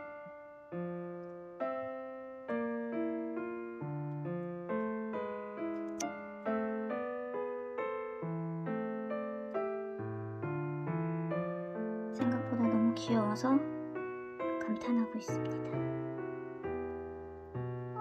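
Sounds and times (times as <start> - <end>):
gentle solo piano melody: 0.0 - 18.0.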